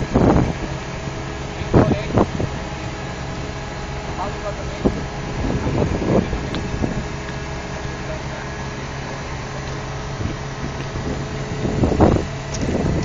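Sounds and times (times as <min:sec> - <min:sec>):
crane engine humming: 0:00.0 - 0:13.0.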